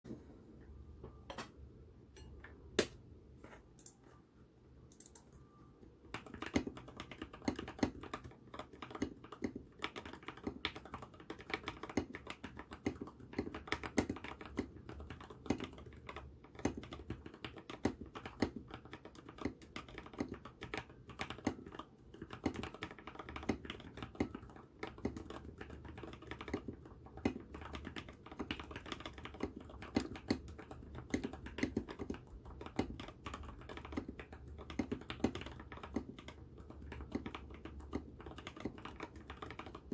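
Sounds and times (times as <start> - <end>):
mechanical keyboard typing: 4.9 - 5.4, 6.1 - 39.9.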